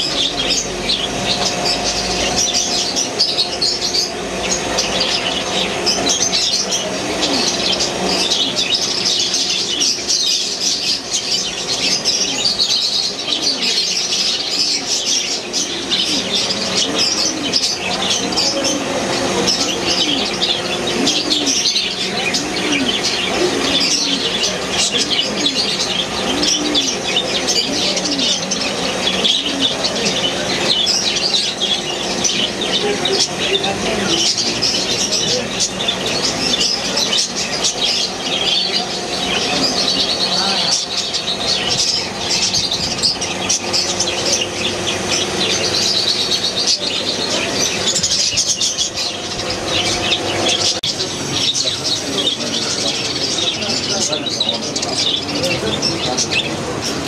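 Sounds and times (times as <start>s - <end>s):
budgerigars chattering and chirping: 0.0s - 57.0s
steady low hum: 0.0s - 57.0s.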